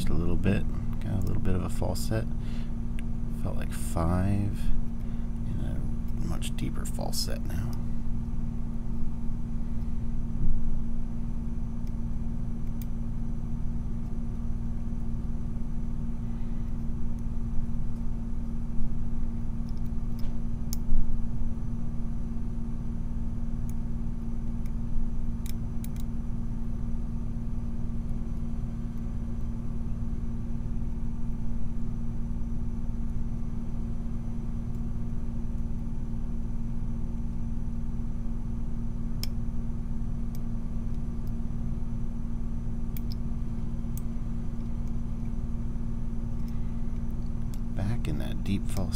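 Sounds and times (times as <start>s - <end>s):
low hum and rumble: 0.0s - 48.9s.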